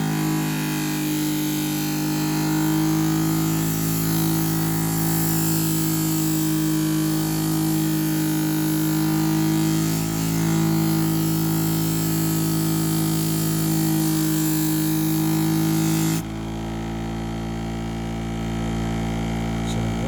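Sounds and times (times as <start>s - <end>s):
grinding machine motor humming: 0.0s - 20.0s.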